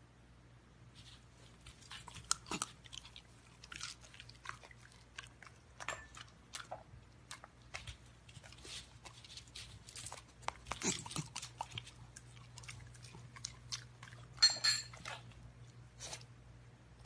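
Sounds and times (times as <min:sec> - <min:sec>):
puppy chewing with crunches: 0:01.0 - 0:17.0.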